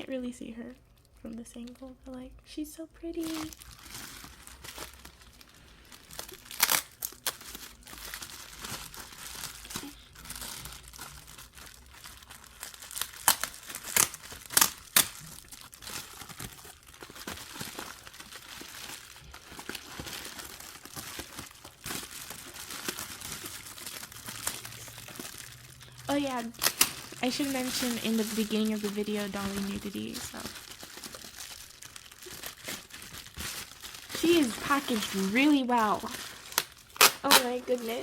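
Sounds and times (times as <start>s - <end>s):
packaging crinkling: 3.2s - 38.0s
packaging tearing: 3.2s - 38.0s.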